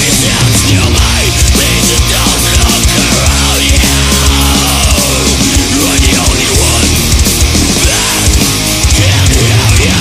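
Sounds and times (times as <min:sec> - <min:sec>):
death metal music: 0:00.0 - 0:10.0.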